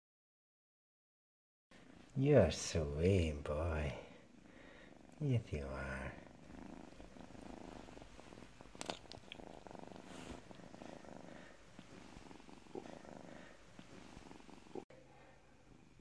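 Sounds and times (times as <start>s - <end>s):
kitten purring: 1.8s - 16.0s.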